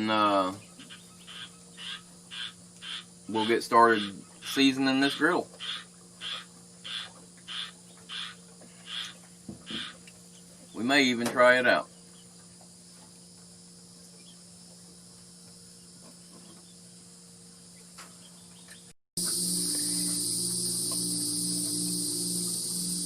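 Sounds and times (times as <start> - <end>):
insects chirring: 0.0 - 23.0
low steady hum: 0.0 - 23.0.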